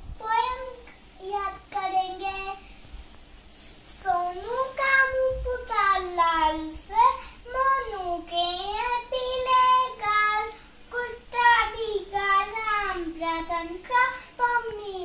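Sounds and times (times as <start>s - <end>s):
girl singing: 0.0s - 2.7s, 3.5s - 15.0s.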